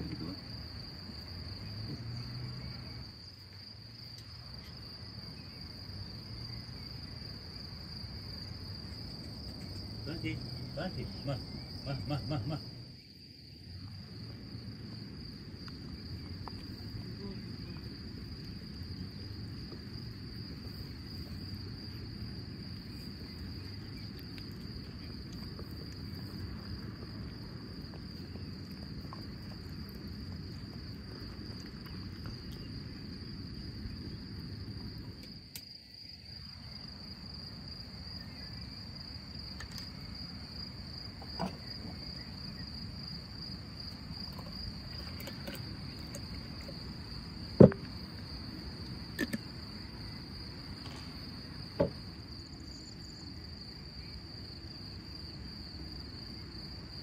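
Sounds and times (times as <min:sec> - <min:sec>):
insect chorus chirring: 0:00.0 - 0:57.0.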